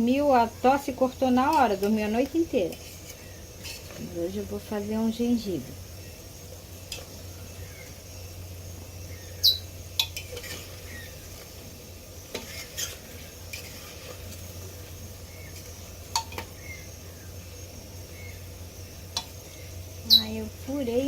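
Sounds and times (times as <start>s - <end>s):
dough sizzling in hot oil: 0.0s - 21.0s.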